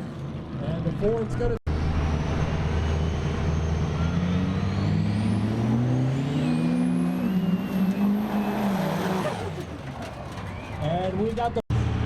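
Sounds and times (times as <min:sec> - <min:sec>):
truck engine accelerating: 0:01.6 - 0:12.0.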